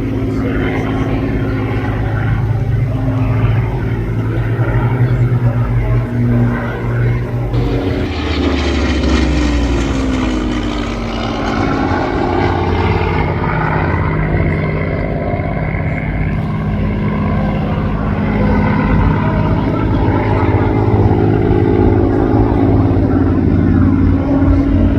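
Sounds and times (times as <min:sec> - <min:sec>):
propeller plane flying past: 0:00.0 - 0:24.9.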